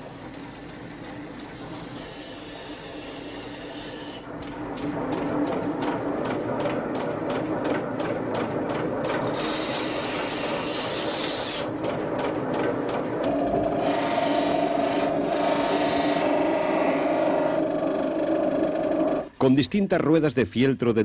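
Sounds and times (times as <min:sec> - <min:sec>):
machine hum: 0:00.0 - 0:19.5.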